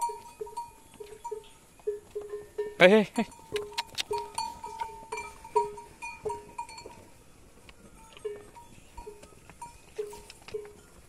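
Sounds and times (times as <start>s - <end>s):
cattle bells clanking: 0.0s - 7.2s, 7.8s - 11.0s.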